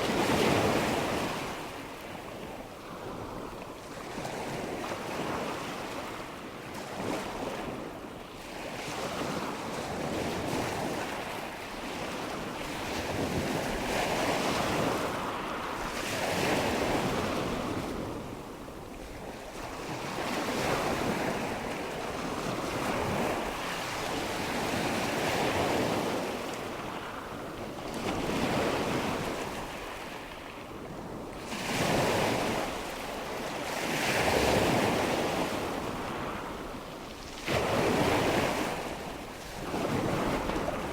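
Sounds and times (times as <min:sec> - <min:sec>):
wind: 0:00.0 - 0:40.9.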